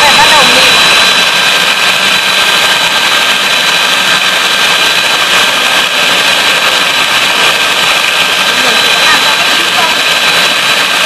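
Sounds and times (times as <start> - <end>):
electric mixer whining: 0.0 - 11.0.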